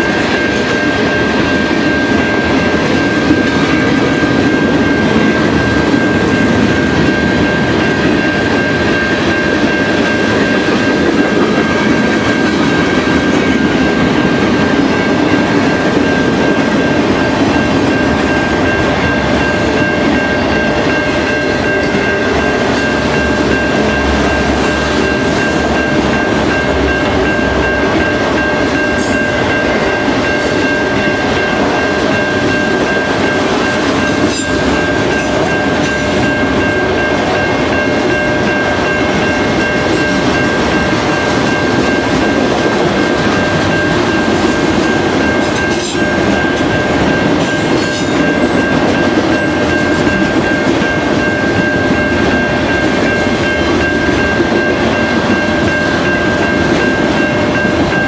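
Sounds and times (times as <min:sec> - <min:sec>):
freight train rumbling: 0:00.0 - 0:58.0
steady high-pitched tone: 0:00.0 - 0:58.0.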